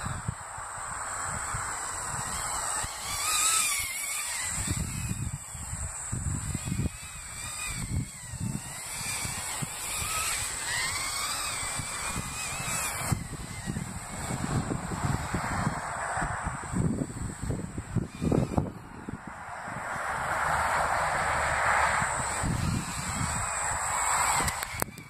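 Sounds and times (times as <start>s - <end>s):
drone motor whine: 0.0s - 25.0s
wind rumble on microphone: 0.0s - 25.0s.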